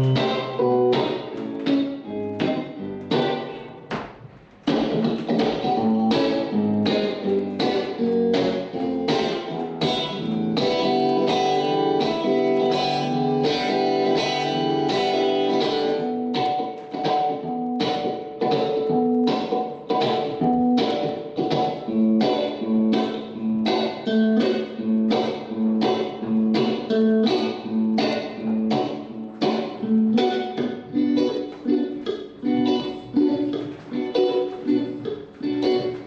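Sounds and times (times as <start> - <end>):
guitar strumming: 0.0 - 36.0.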